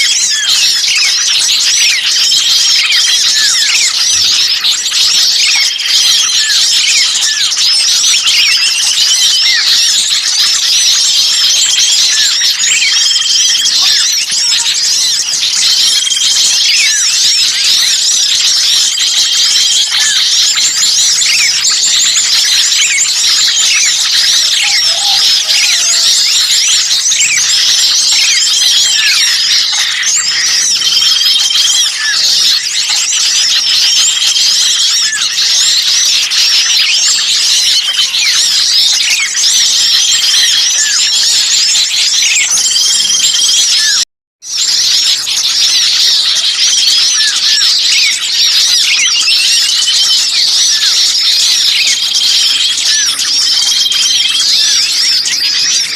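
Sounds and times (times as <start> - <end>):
songbirds chattering and chirping: 0.0 - 55.9.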